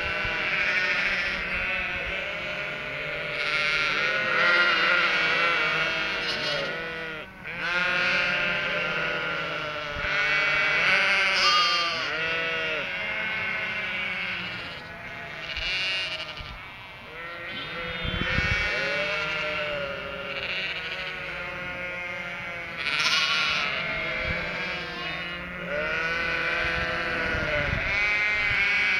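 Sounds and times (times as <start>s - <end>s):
lambs bleating: 0.0s - 28.9s
sheep baaing: 0.0s - 28.9s.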